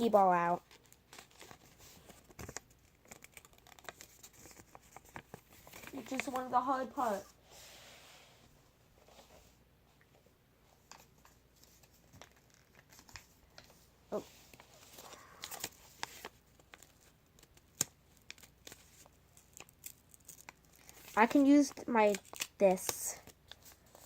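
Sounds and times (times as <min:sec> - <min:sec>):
paper crinkling and tearing: 0:00.1 - 0:07.2, 0:11.6 - 0:24.0.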